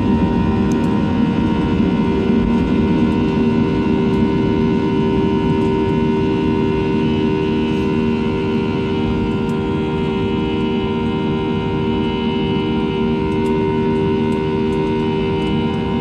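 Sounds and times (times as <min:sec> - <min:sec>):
airliner cabin engine rush: 0:00.0 - 0:16.0
steady humming tones: 0:00.0 - 0:16.0.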